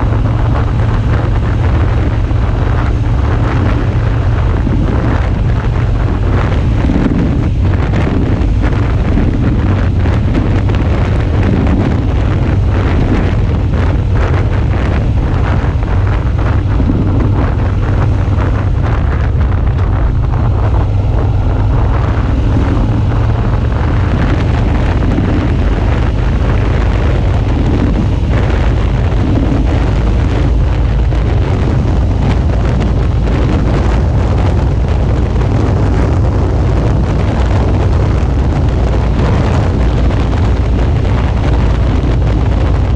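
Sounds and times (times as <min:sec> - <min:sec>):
motorcycle engine drone: 0:00.0 - 0:42.9
wind buffeting microphone: 0:00.0 - 0:42.9.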